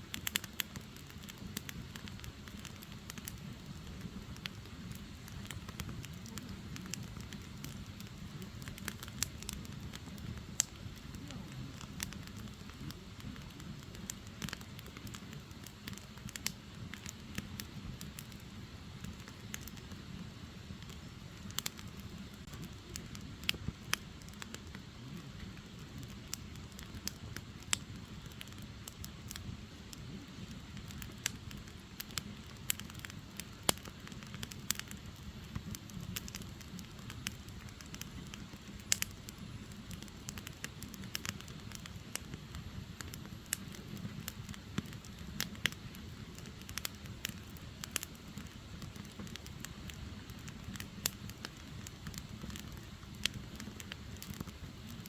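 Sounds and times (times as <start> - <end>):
firewood crackling and popping: 0.0 - 55.0
low rush of flames: 0.0 - 55.0.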